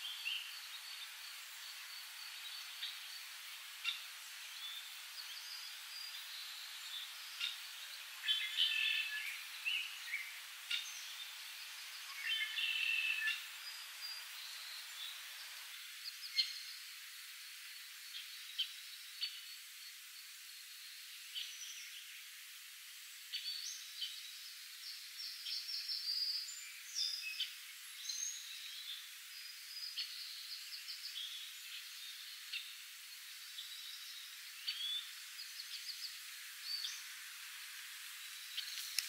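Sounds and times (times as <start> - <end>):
light rain on a pond: 0.0 - 39.0
songbirds chirping and trilling: 0.0 - 39.0.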